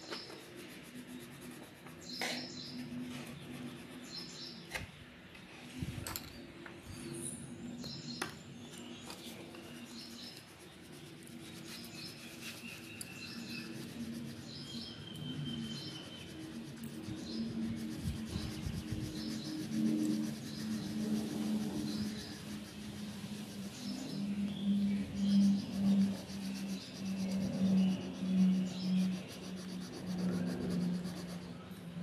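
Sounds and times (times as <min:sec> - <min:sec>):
small birds chirping: 0:00.0 - 0:05.1, 0:06.9 - 0:32.0.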